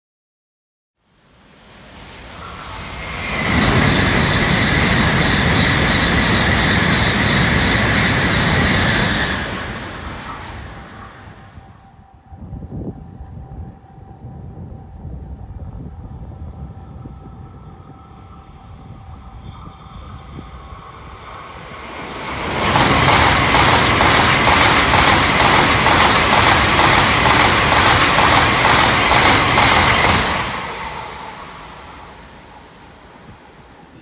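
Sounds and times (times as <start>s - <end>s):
train passing at speed: 1.1s - 34.0s.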